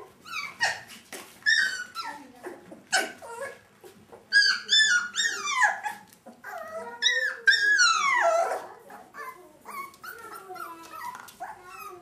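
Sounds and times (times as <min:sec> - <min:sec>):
puppies whining and yipping: 0:00.0 - 0:02.3, 0:02.9 - 0:12.0.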